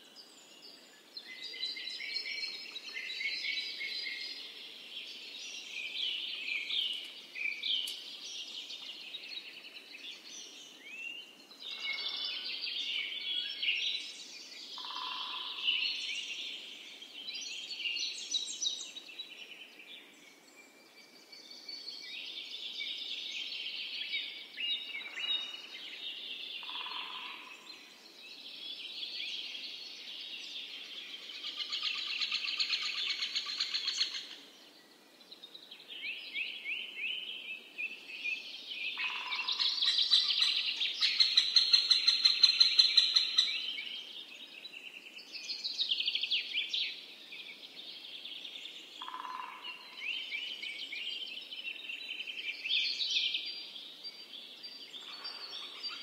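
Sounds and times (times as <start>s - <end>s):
birds singing and chirping: 0.0s - 56.0s.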